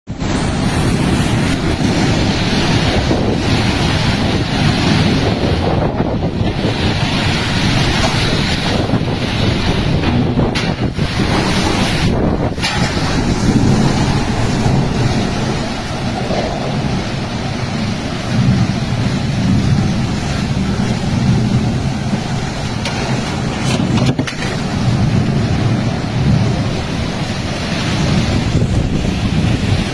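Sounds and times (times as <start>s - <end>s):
low rumble: 0.1s - 29.9s
wind gusting against microphone: 0.1s - 29.9s.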